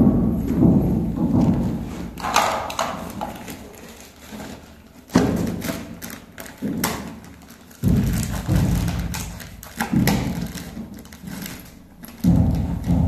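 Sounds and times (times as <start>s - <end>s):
dull thumps and knocks from handling: 0.0s - 3.6s, 4.2s - 13.0s
plastic packet rustling: 2.1s - 13.0s.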